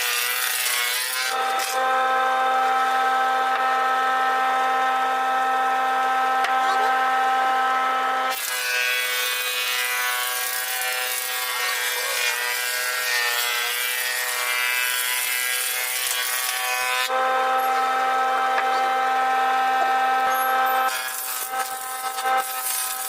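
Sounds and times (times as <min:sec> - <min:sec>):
power tool motor whine: 0:00.0 - 0:12.2, 0:15.6 - 0:23.0.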